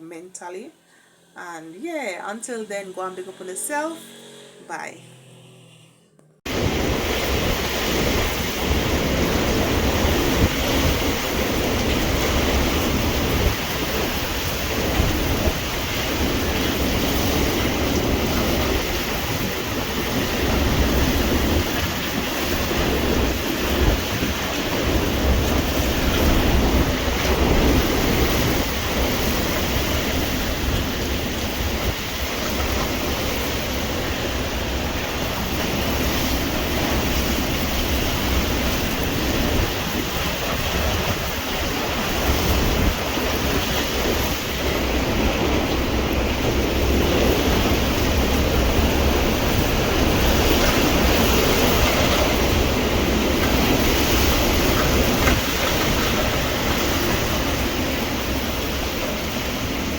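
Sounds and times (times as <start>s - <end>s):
strong wind and heavy rain: 6.5s - 59.9s
wind buffeting microphone: 6.5s - 59.9s.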